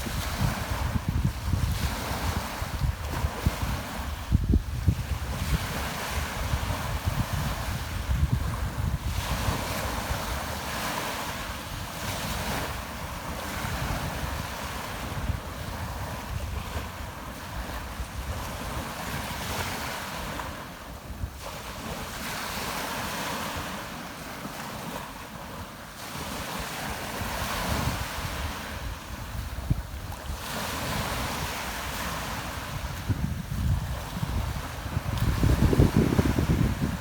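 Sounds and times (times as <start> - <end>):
wind buffeting microphone: 0.0 - 23.8, 24.8 - 37.0
sea waves breaking ashore: 0.0 - 37.0.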